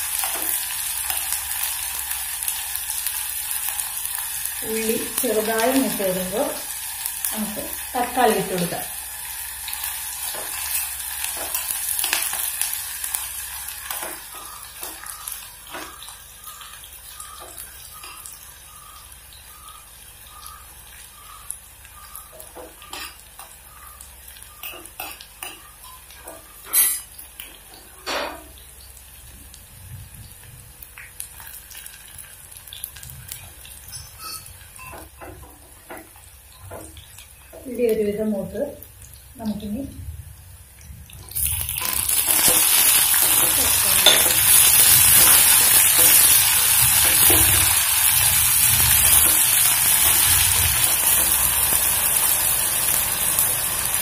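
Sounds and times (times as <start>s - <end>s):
shallots sizzling in oil: 0.0s - 40.0s, 40.8s - 54.0s.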